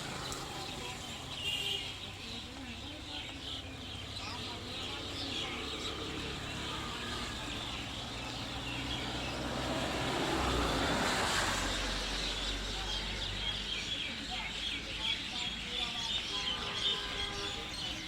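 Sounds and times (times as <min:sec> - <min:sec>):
vehicle passing: 0:00.0 - 0:14.5
small birds chirping: 0:00.0 - 0:18.0.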